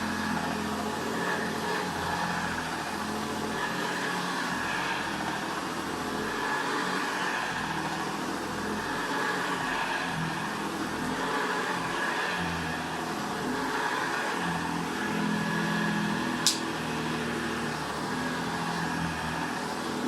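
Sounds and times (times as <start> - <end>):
vacuum cleaner motor running: 0.0 - 20.0.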